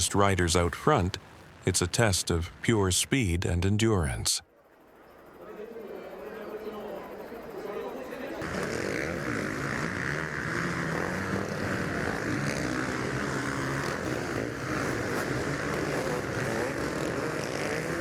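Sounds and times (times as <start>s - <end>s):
off-road motorcycle engines droning: 0.0s - 4.2s, 4.8s - 18.0s.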